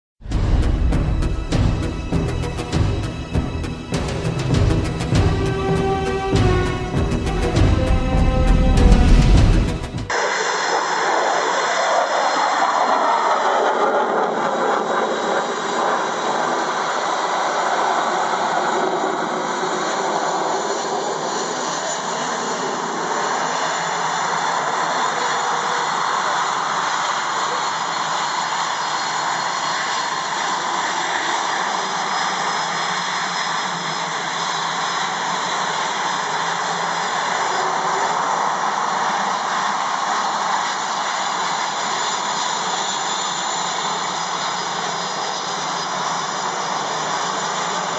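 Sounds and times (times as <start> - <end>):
jet engines rushing whine: 0.2 - 47.9.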